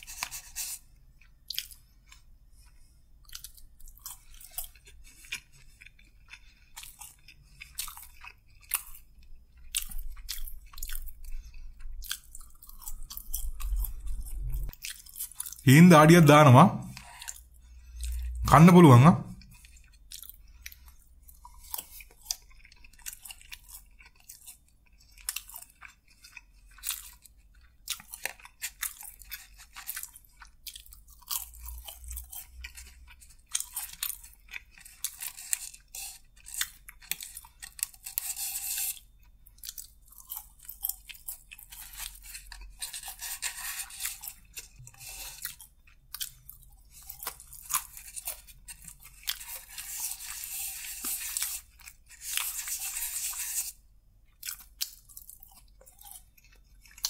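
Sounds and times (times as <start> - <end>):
crunchy chewing: 0.0 - 15.6, 16.9 - 18.4, 19.3 - 57.0.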